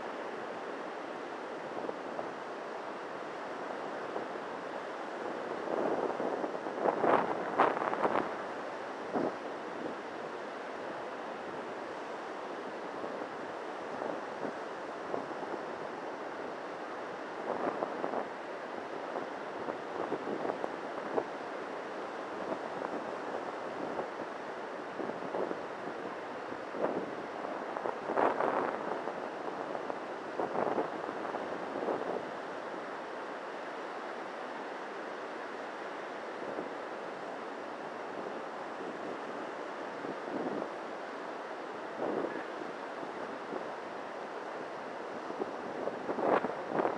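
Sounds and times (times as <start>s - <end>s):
surf breaking on a beach: 0.0s - 46.9s
wind on the microphone: 0.0s - 46.9s.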